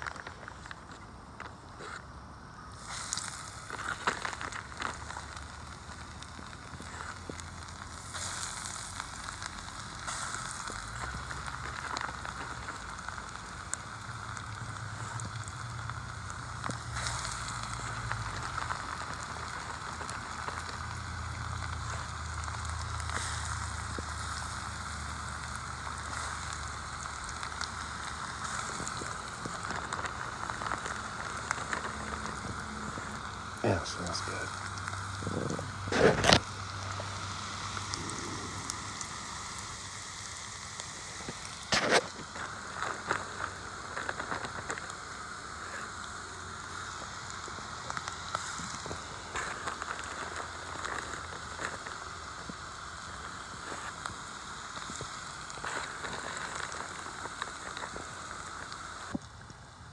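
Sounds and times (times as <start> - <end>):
hot oil sizzling and crackling: 0.0 - 59.9.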